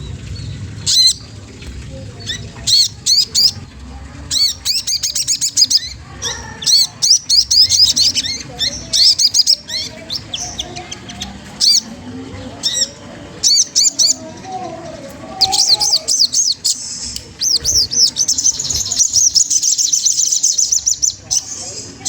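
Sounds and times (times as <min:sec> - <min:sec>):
bird chirping: 0:00.0 - 0:01.4, 0:02.0 - 0:03.6, 0:04.3 - 0:22.0.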